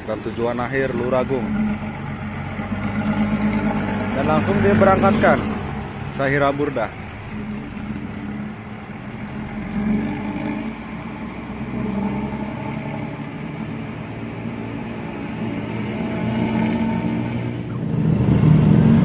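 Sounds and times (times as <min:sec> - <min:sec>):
bus engine growling: 0:00.0 - 0:19.0.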